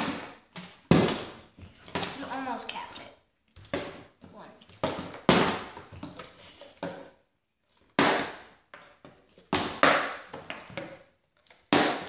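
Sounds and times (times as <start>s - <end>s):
plastic bottles knocking on wooden floor: 0.0s - 2.3s, 3.6s - 7.2s, 7.9s - 12.0s.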